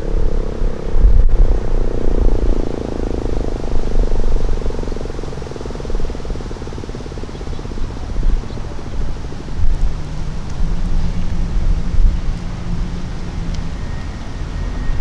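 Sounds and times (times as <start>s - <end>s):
low rumble: 0.0s - 15.0s
tornado siren winding down: 0.0s - 15.0s.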